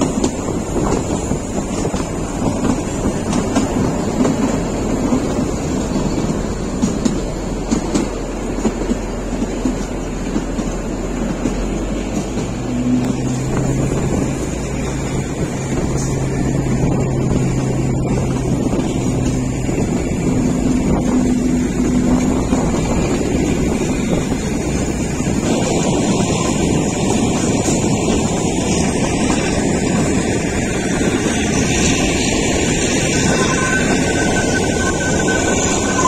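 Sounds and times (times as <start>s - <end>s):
train carriage rumbling: 0.0s - 36.0s
wind buffeting microphone: 0.0s - 36.0s.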